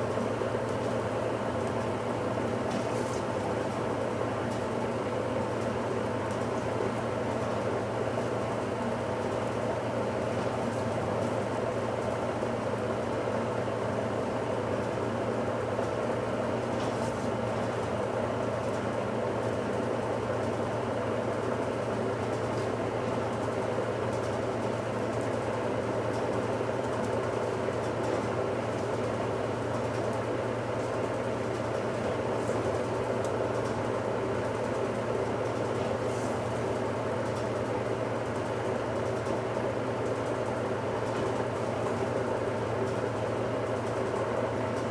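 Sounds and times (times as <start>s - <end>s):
washing machine running: 0.0s - 44.9s.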